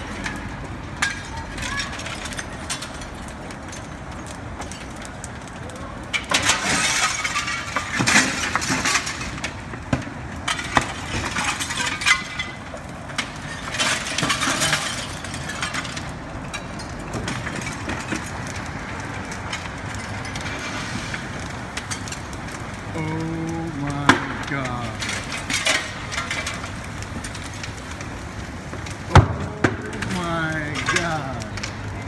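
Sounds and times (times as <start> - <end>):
fire crackling and snapping: 0.0 - 32.0
glass cracking and clinking: 0.0 - 32.0.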